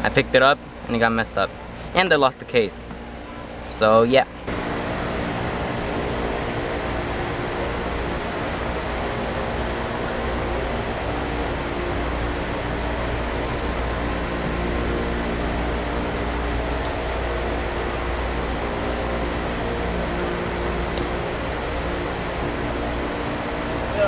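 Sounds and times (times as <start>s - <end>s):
skateboard wheels rolling on road: 4.5s - 24.0s.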